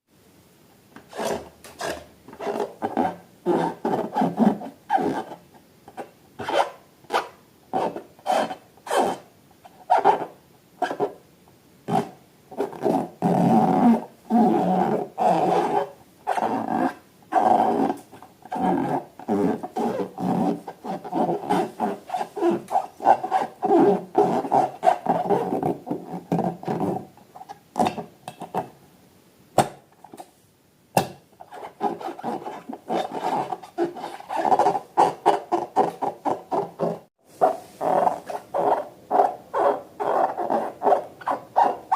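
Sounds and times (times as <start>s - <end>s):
rubbery squeaks and squelches: 1.1s - 9.2s, 9.9s - 11.1s, 11.9s - 27.6s, 31.4s - 41.9s.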